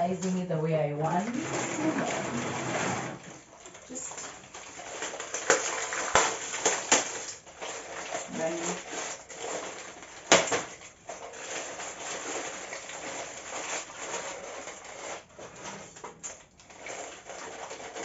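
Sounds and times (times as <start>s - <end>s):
plastic packaging rustling: 1.1s - 18.0s.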